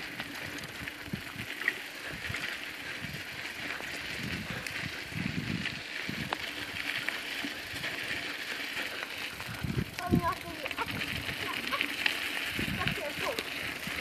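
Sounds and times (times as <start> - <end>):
bicycle tyres rolling on dirt: 0.0 - 14.0.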